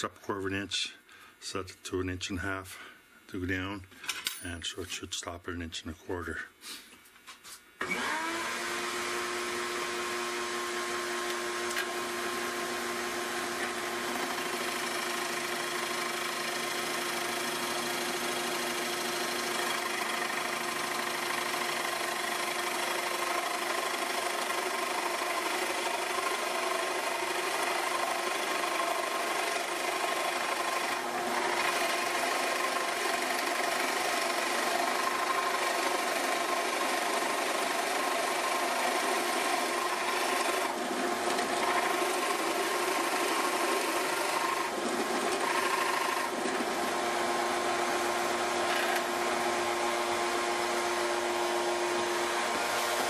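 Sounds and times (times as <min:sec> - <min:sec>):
drill press boring into wood: 0:07.8 - 0:53.0.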